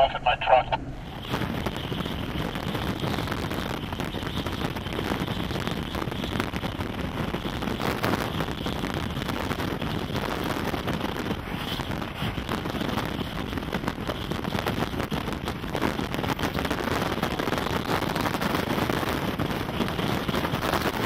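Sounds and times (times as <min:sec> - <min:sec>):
storm wind buffeting microphone: 0:00.0 - 0:21.0
rain on a vehicle: 0:01.0 - 0:21.0.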